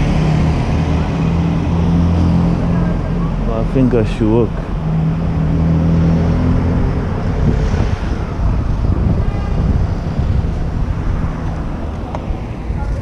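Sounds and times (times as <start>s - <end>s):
passing traffic: 0.0s - 13.0s
vehicle engine humming: 0.0s - 13.0s.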